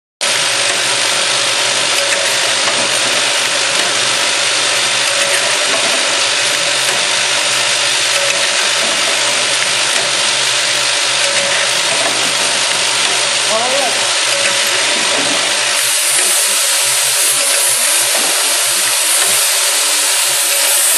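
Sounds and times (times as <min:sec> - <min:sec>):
tapping machine running: 0:00.2 - 0:20.9.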